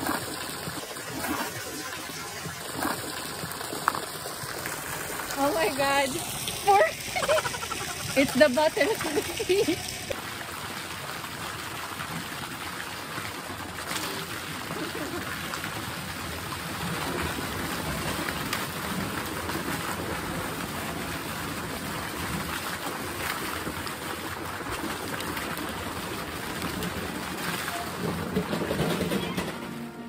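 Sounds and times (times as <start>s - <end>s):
water pouring into pond: 0.0s - 28.4s.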